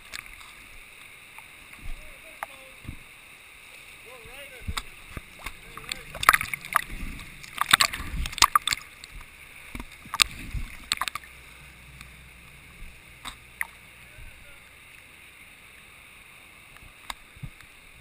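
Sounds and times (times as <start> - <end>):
river current rushing: 0.0 - 18.0
water splashing: 0.0 - 18.0.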